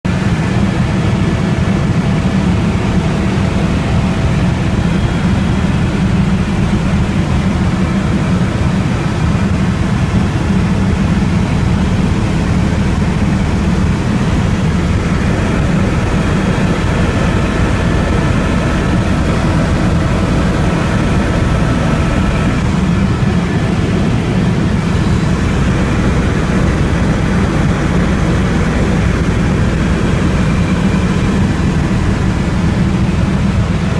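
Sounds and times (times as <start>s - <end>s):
helicopter rotor and engine drone: 0.1s - 33.9s.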